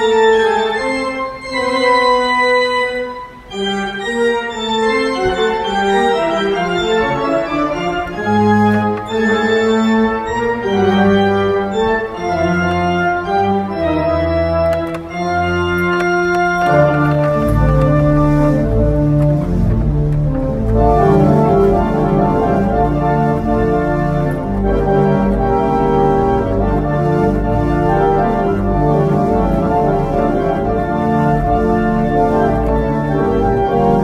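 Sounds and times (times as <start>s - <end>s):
deep organ pedal bass notes: 0.0s - 34.0s
pipe organ playing: 0.0s - 34.0s.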